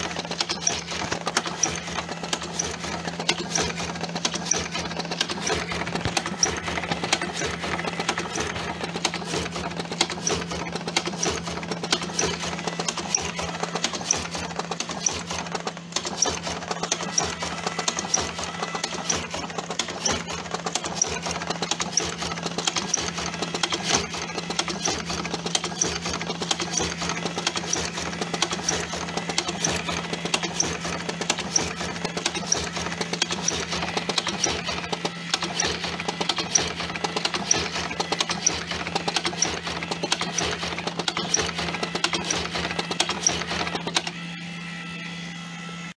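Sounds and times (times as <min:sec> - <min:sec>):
mechanical rattle: 0:00.0 - 0:44.2
sharp machine ticks: 0:00.0 - 0:44.3
machine motor hum: 0:00.0 - 0:45.9.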